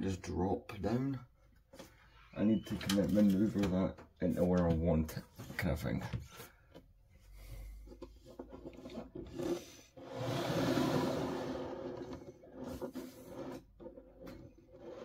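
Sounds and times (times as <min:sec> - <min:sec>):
rubbing and scraping handling: 0:01.5 - 0:15.0.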